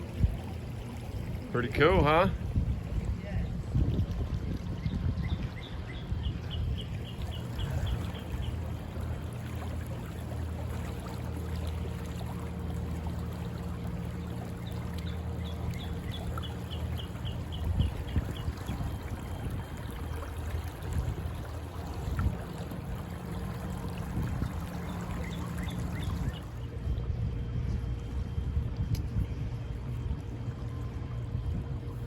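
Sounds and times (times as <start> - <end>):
low steady hum: 0.0 - 32.0
river water running: 0.0 - 32.0.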